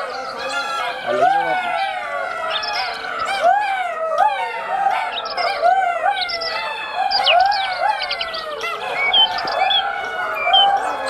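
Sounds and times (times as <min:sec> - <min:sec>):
wolves howling in chorus: 0:00.0 - 0:11.0
wolves yipping: 0:00.0 - 0:11.0.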